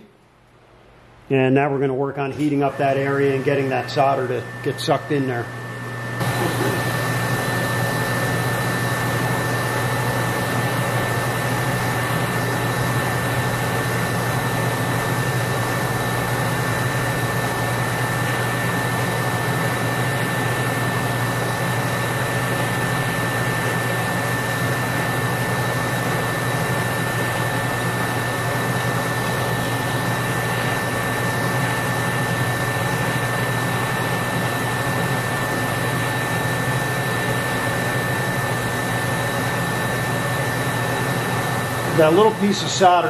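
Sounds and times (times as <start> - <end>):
gas torch hissing: 6.2 - 43.0.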